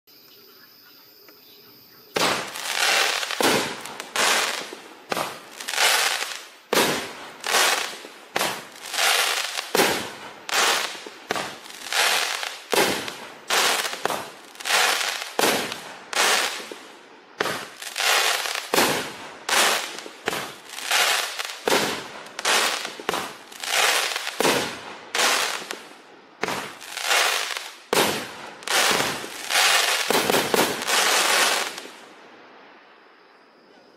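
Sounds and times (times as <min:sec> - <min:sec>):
crackling firework bursts: 0:02.1 - 0:32.2
fireworks shots going up: 0:02.2 - 0:16.8, 0:17.4 - 0:32.0.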